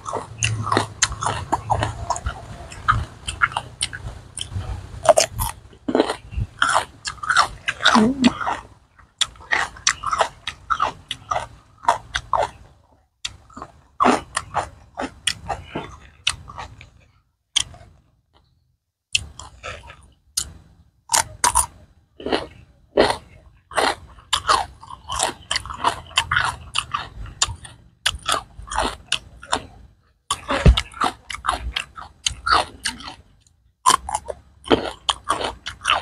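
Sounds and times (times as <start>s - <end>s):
crunchy chewing of raw vegetable: 0.0s - 36.0s.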